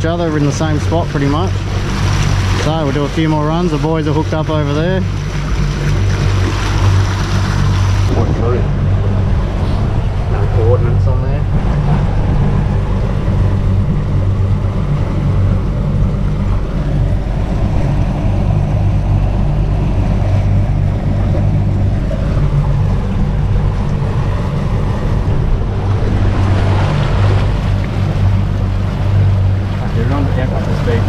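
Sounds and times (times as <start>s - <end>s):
outboard motor running: 0.0s - 31.0s
water wash from wake: 0.0s - 31.0s.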